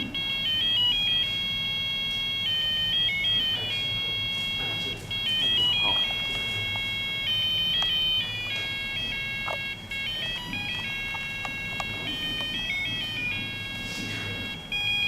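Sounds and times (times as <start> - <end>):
electronic beeping melody: 0.0 - 15.0.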